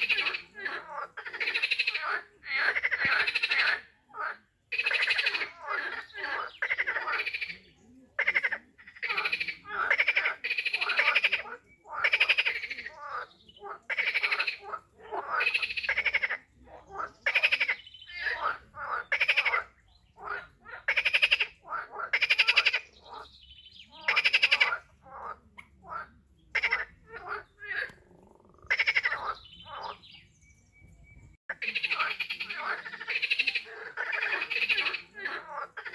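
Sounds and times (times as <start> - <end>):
frogs croaking: 0.0 - 30.7, 31.5 - 35.9.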